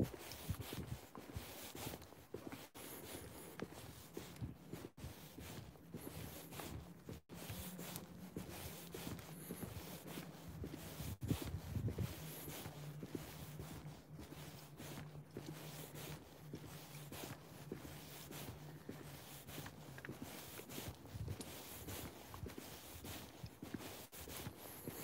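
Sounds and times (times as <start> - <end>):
footsteps on wet tarmac: 0.0 - 25.0.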